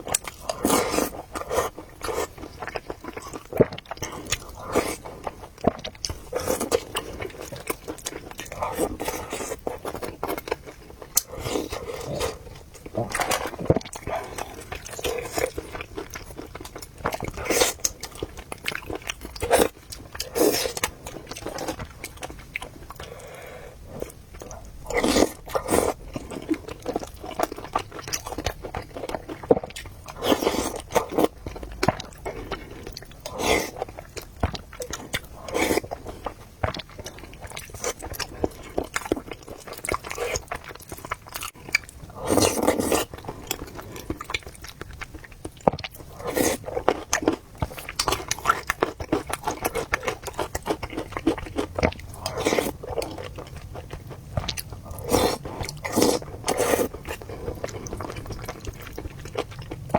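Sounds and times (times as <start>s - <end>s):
person chewing wetly: 0.0s - 59.9s.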